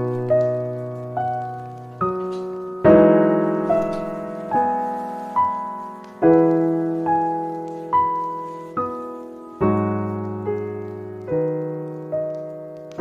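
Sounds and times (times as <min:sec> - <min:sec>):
slow solo piano: 0:00.0 - 0:13.0.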